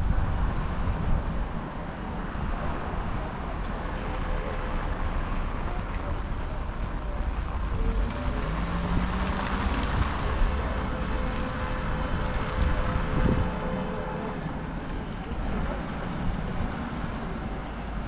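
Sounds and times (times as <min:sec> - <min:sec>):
wind buffeting microphone: 0:00.0 - 0:04.0, 0:05.0 - 0:17.7
city traffic noise: 0:00.0 - 0:18.0
passing vehicle engine hum: 0:00.0 - 0:18.0.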